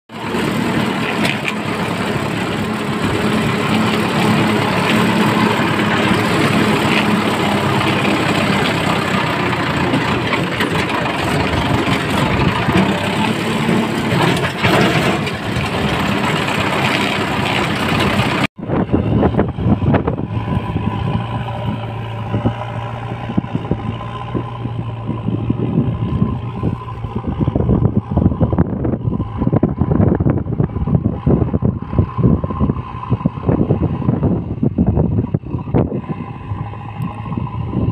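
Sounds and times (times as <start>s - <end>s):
tractor diesel engine running: 0.1s - 37.9s.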